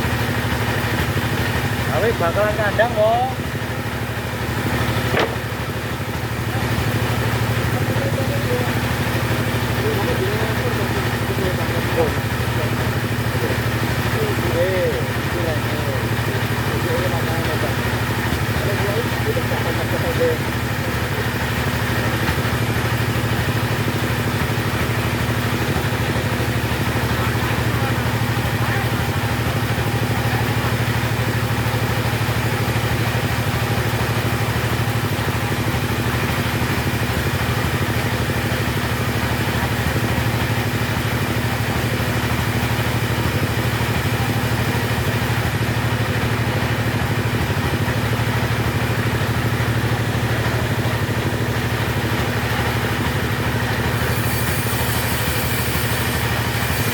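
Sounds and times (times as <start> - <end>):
chainsaw engine running: 0.0 - 56.9.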